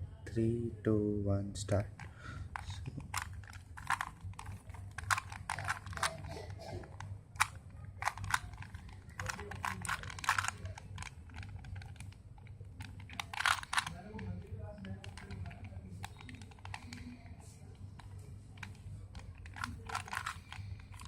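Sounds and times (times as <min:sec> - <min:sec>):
puzzle cube clicking: 0:01.8 - 0:21.0.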